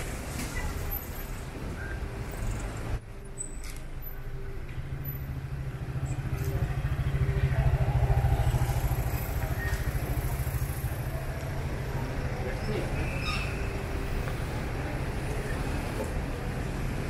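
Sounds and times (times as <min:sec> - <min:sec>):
vehicle engine pulsing rumble: 0:00.0 - 0:17.0.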